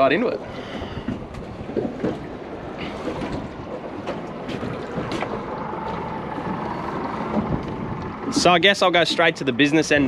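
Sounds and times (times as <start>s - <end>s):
water slapping boat hull: 0.0s - 10.0s
wind buffeting microphone: 0.0s - 10.0s.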